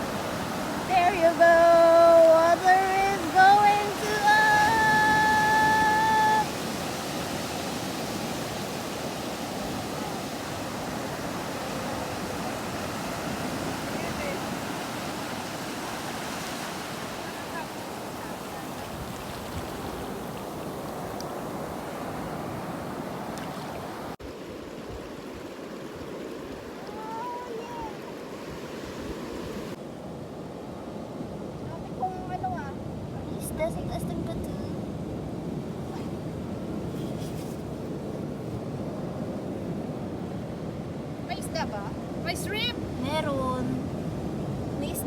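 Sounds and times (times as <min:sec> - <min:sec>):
small waves washing at shore: 0:00.0 - 0:45.0.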